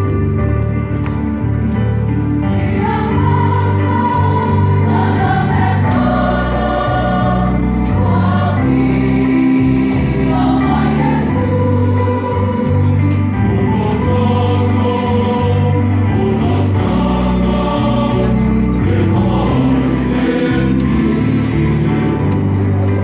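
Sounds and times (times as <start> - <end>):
choir singing in harmony: 2.0 - 23.0.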